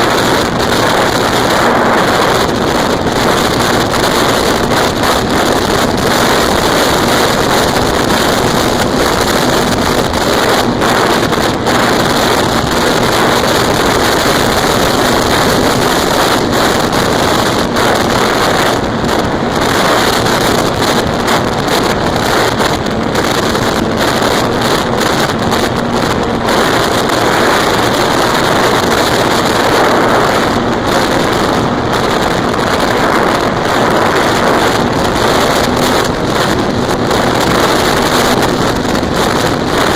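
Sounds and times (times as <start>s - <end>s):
electric motor and propeller hum: 0.0s - 39.9s
wind over microphone: 0.0s - 39.9s.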